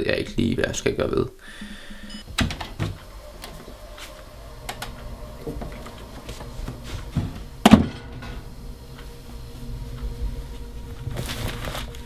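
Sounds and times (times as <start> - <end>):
footsteps: 1.6 - 12.0.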